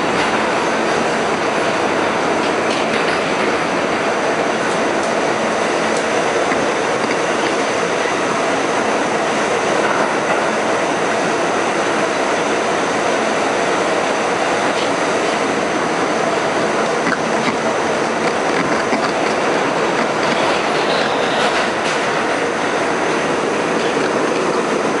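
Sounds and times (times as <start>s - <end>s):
subway wheels rumbling on rail: 0.0s - 25.0s.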